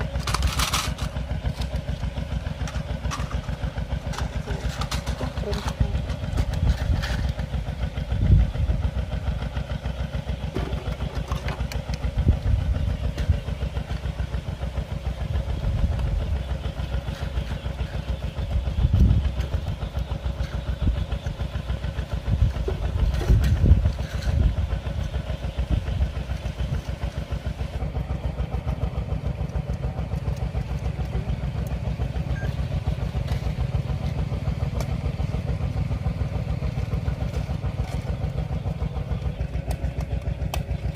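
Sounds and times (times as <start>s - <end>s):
small engine puttering: 0.0s - 40.9s.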